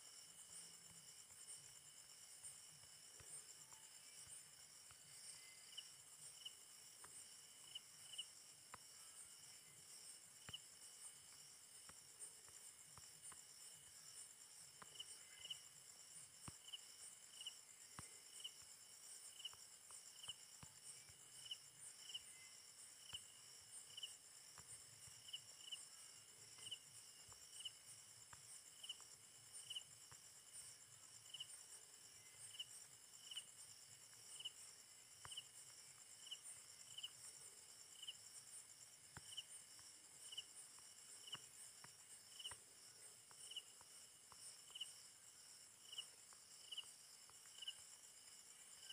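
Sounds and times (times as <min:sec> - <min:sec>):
insect chirping trill: 0:00.0 - 0:48.9.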